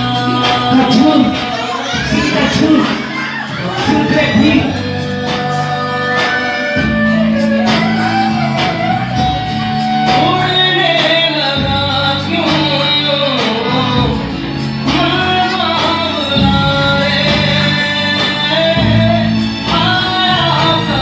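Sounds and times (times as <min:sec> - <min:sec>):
dance song with singer: 0:00.0 - 0:21.0.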